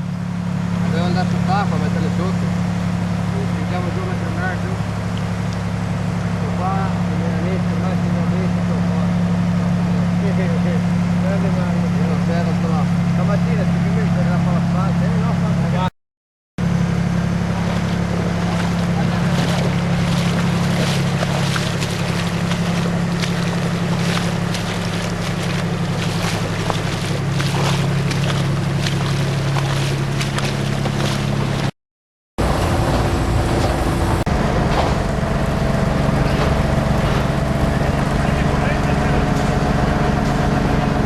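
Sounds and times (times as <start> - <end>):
large diesel engine running: 0.0 - 15.9, 16.6 - 31.7, 32.4 - 41.0.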